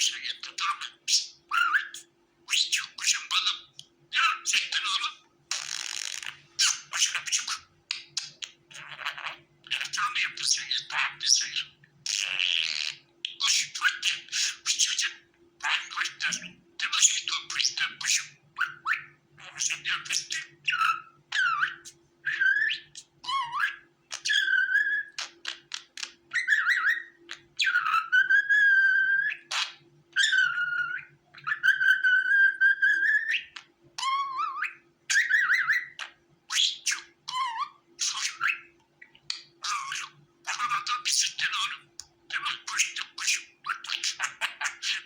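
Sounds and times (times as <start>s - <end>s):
budgerigar chirping: 0.0s - 45.0s
budgerigar whistling: 0.0s - 45.0s.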